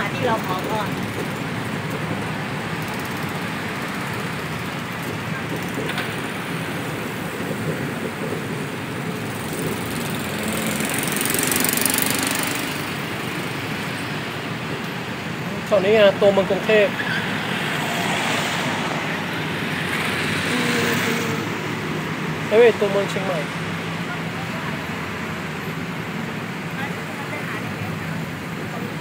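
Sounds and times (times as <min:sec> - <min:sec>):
truck engine and road noise: 0:00.0 - 0:29.0.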